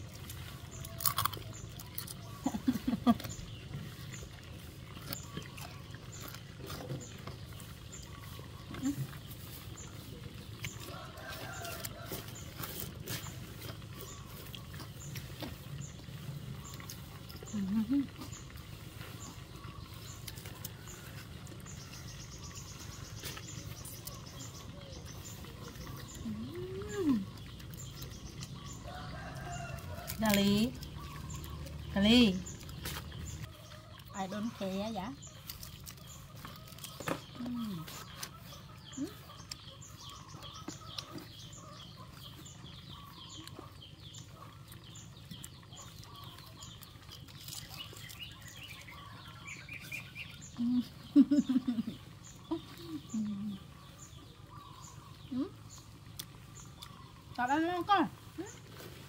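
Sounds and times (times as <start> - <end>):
faint birds chirping: 0.0 - 59.0
low steady rumble: 0.0 - 59.0.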